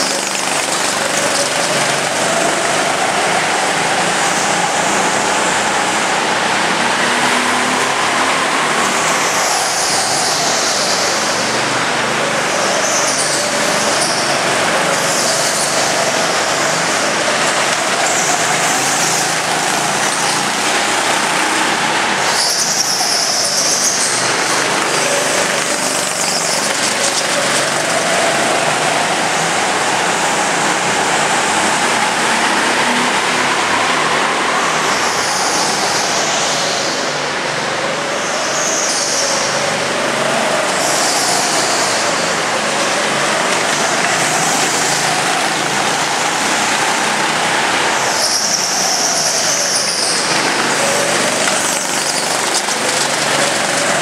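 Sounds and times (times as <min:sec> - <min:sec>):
go-kart engines running: 0:00.0 - 0:54.0.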